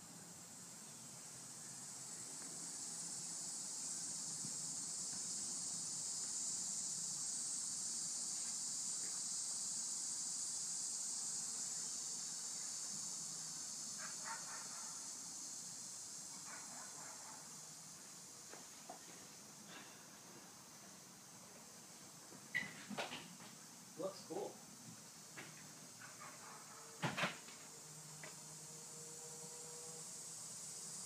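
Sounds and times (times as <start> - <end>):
high-pitched hiss: 0.0 - 31.0.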